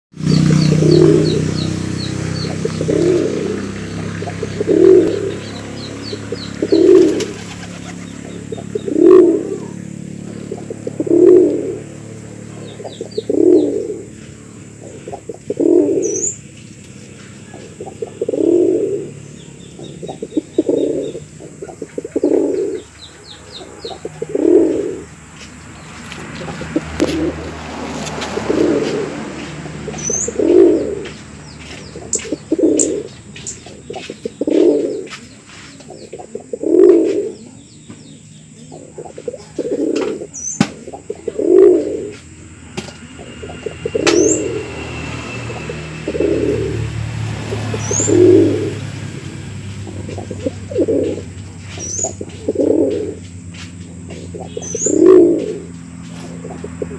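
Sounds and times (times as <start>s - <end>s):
pigeon cooing: 0.2s - 16.5s, 17.2s - 25.3s, 25.9s - 37.6s, 38.5s - 42.3s, 43.2s - 56.9s.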